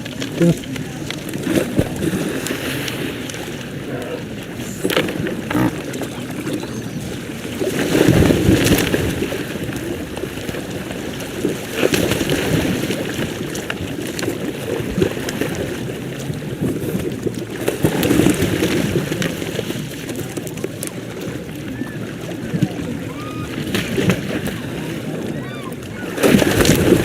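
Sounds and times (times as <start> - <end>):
water sloshing and splashing: 0.0 - 27.0.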